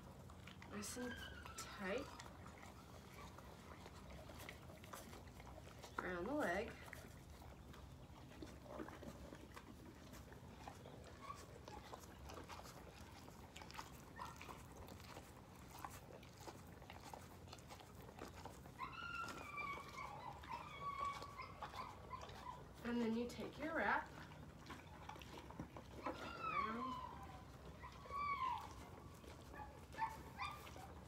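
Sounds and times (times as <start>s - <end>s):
pony nosing clicks and rustles: 0.0s - 31.0s.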